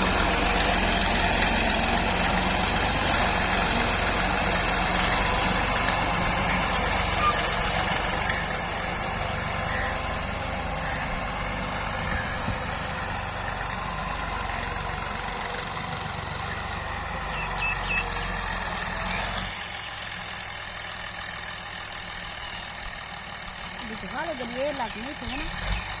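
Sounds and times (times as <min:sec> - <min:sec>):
tractor engine rumbling: 0:00.0 - 0:26.0.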